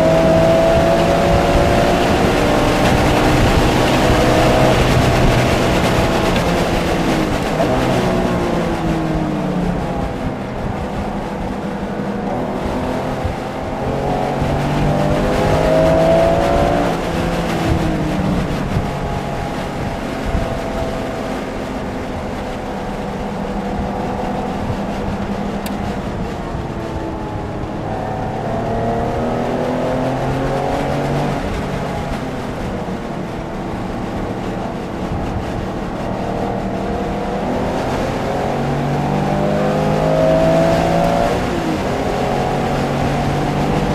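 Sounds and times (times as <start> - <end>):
race car engine accelerating: 0.0 - 43.9
road and wind noise: 0.0 - 43.9.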